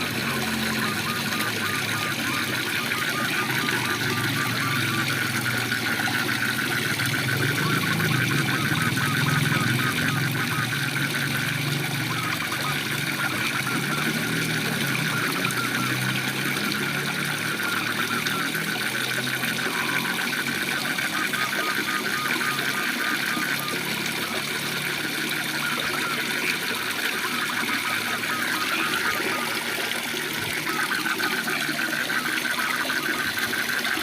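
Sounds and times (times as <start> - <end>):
frog chorus: 0.0 - 34.0
frogs trilling: 0.0 - 34.0.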